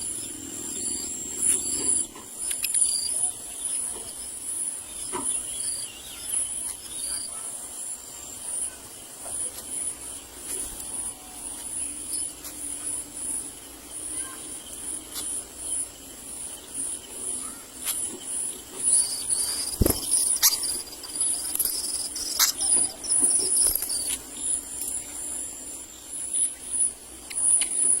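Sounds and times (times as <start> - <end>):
insects trilling in pulsing bursts: 0.0 - 28.0
steady high insect buzz: 0.0 - 28.0.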